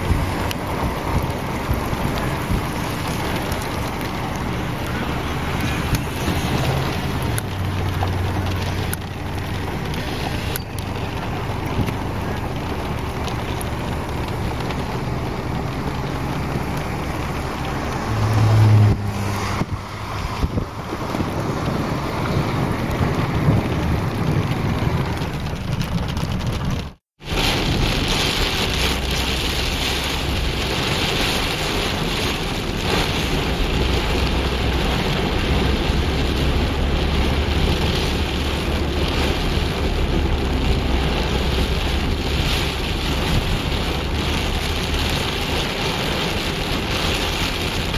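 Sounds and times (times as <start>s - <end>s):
heavy rain on a car: 0.0s - 47.9s
road and engine rumble: 0.0s - 47.9s
wind noise on microphone: 0.0s - 47.9s.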